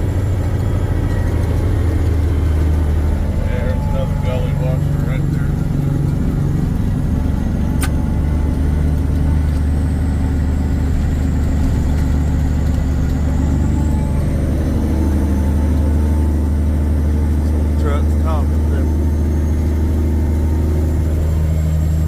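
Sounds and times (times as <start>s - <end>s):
diesel truck engine droning: 0.0s - 22.0s.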